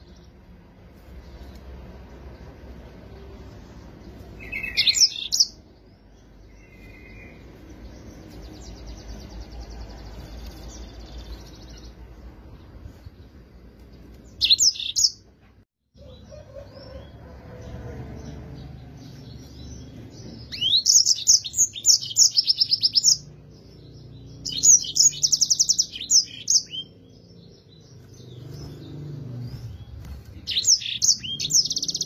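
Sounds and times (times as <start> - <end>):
canary singing: 3.0 - 15.3, 16.0 - 32.0.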